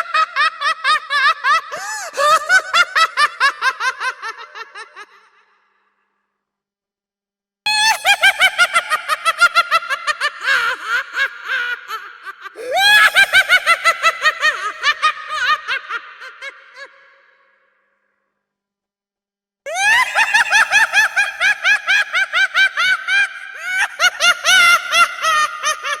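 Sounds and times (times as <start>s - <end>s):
cackling clown laugh: 0.0s - 5.4s, 7.7s - 17.6s, 19.7s - 26.0s.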